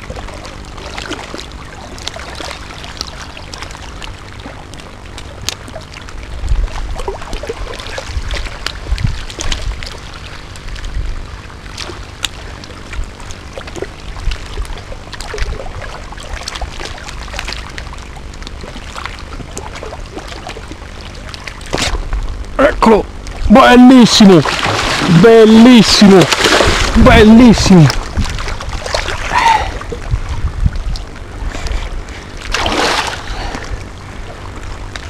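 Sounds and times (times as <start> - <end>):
wind rumbling on microphone: 0.0 - 23.8, 24.4 - 35.0.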